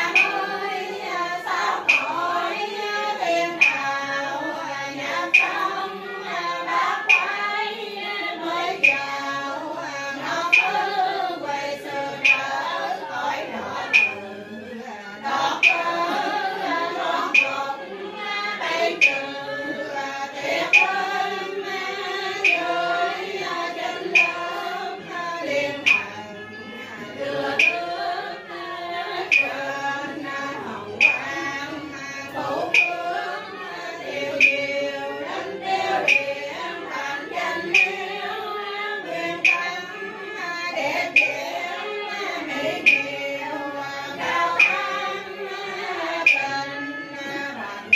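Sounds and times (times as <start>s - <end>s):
sharp percussive strike: 0.0s - 7.7s, 10.2s - 14.6s, 15.3s - 28.6s, 29.2s - 38.3s, 39.0s - 41.6s, 42.4s - 43.2s, 44.1s - 47.9s
voices chanting a sung prayer: 0.0s - 47.9s.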